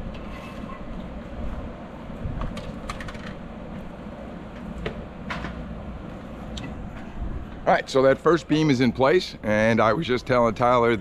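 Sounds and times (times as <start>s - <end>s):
steady low rumble: 0.8s - 11.0s.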